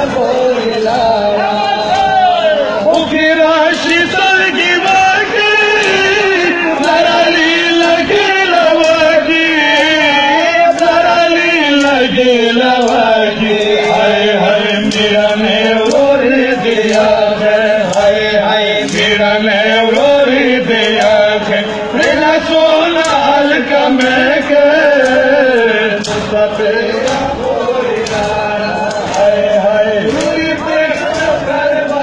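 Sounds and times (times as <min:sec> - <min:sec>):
men chanting a lament: 0:00.0 - 0:32.0.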